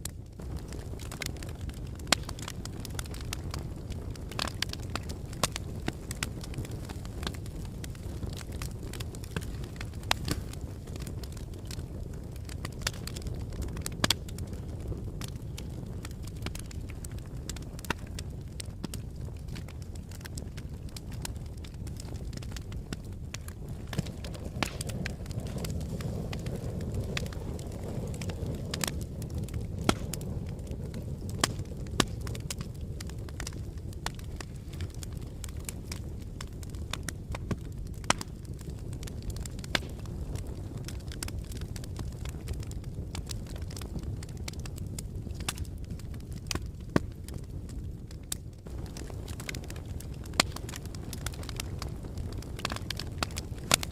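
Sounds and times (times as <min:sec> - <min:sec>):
low rumble of flames: 0:00.0 - 0:53.9
wood fire crackling and popping: 0:00.0 - 0:53.9.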